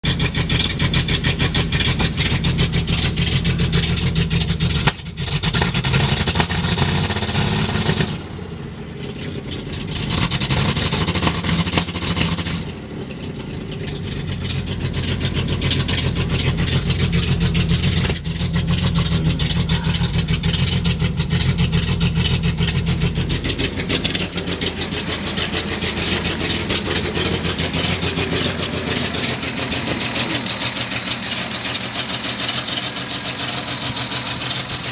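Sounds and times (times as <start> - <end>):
car engine idling roughly: 0.0 - 34.9.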